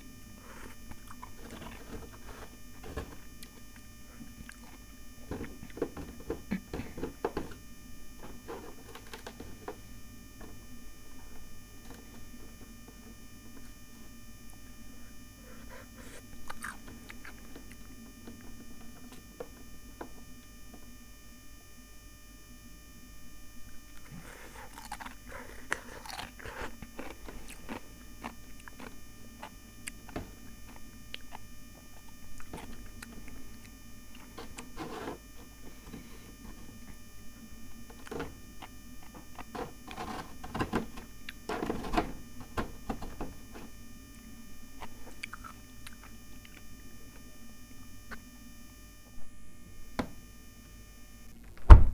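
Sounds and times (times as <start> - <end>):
frost and ice crunching: 0.0 - 14.0, 15.4 - 20.9, 23.6 - 47.3.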